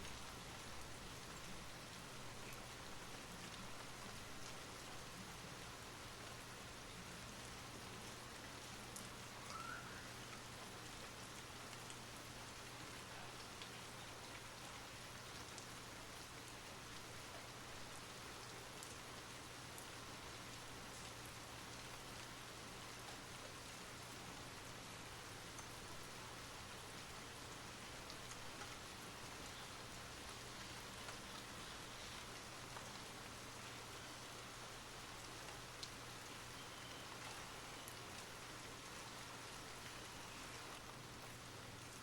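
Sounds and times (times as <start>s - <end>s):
raindrops ticking on surfaces: 0.0s - 42.0s
steady rain: 0.0s - 42.0s.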